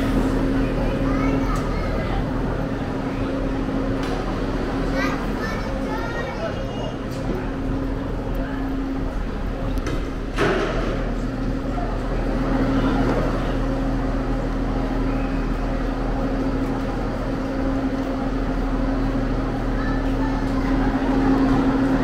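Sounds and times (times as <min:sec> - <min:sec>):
diesel train idling hum: 0:00.0 - 0:22.0.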